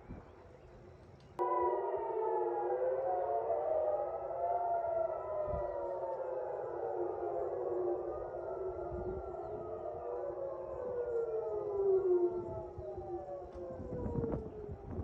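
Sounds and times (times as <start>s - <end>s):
air raid sirens wailing: 1.4s - 15.0s.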